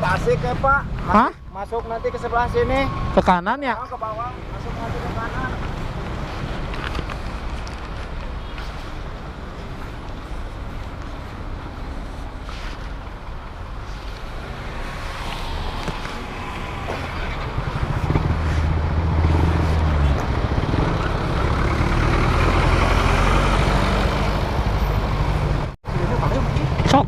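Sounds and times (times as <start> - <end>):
road noise: 0.0 - 27.0.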